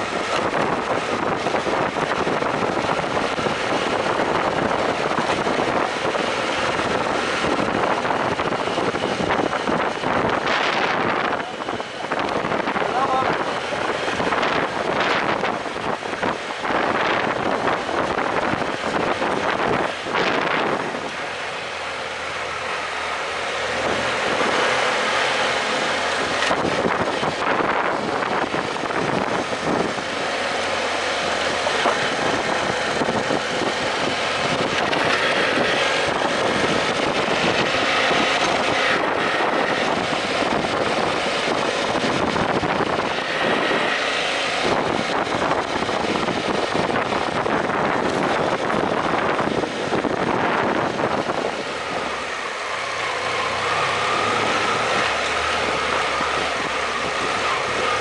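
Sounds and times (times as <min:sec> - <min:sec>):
motorcycle engine running: 0:00.0 - 0:58.0
wind: 0:00.0 - 0:58.0.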